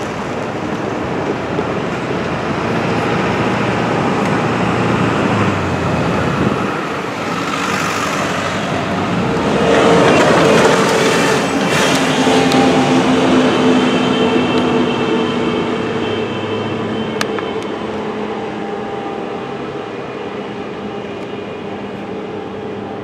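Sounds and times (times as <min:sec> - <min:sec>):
freight train running: 0:00.0 - 0:23.0.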